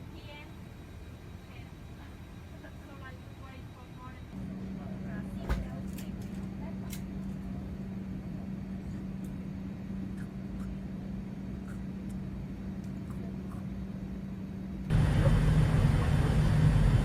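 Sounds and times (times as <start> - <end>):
vehicle droning hum from inside: 0.0 - 17.0.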